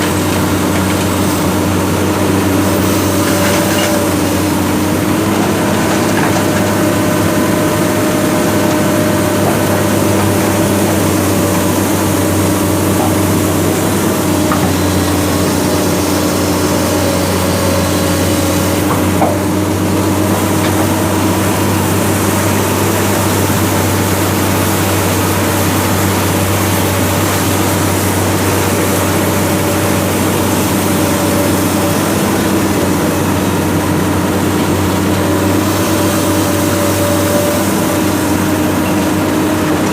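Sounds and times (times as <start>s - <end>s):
heavy machinery engine humming: 0.0s - 39.9s.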